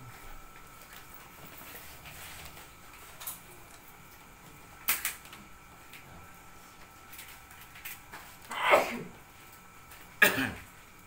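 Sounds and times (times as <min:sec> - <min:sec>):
faint room noise: 0:00.0 - 0:11.0.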